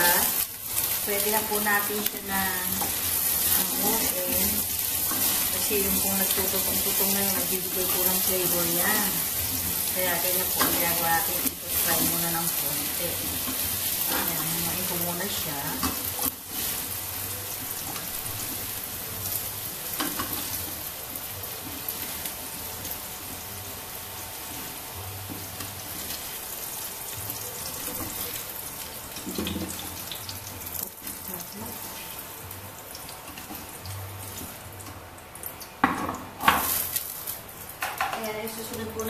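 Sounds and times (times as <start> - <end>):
hot oil sizzling: 0.0 - 39.0.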